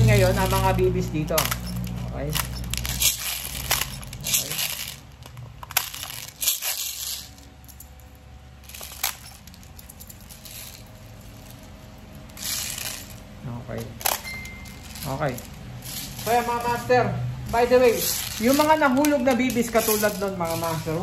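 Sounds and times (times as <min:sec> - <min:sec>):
plastic pellets clicking and rattling: 0:00.0 - 0:21.0.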